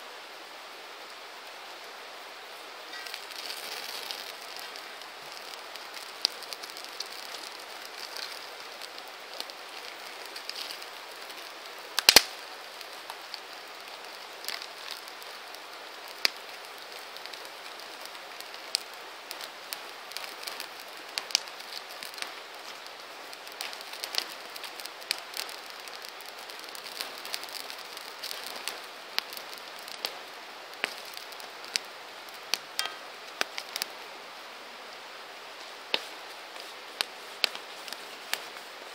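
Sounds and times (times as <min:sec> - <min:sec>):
campfire crackling and popping: 0:00.5 - 0:38.9.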